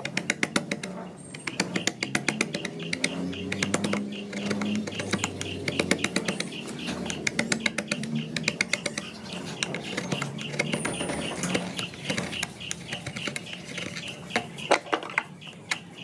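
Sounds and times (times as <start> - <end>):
chisel paring wood: 0.0 - 16.0.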